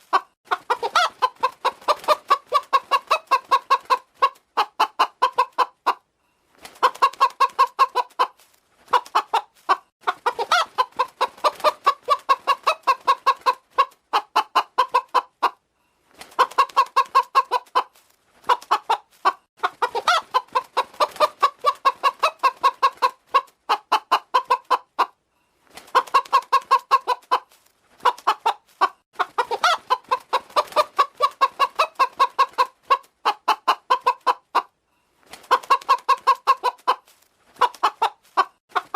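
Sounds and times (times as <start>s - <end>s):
hen clucking: 0.0s - 6.1s, 6.8s - 15.6s, 16.3s - 25.2s, 25.9s - 34.8s, 35.4s - 38.9s.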